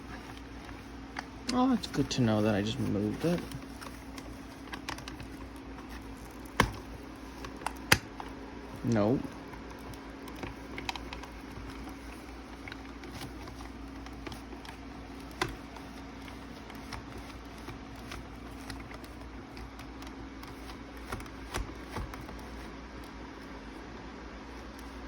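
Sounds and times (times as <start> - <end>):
plastic parts clicking and tapping: 0.0 - 22.7
steady low hum: 0.0 - 25.0.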